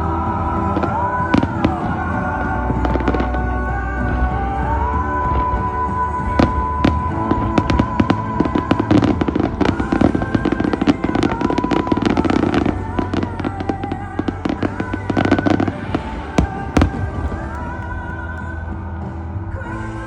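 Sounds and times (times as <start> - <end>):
music soundtrack: 0.0 - 20.0
fireworks bursting and crackling: 0.6 - 19.0.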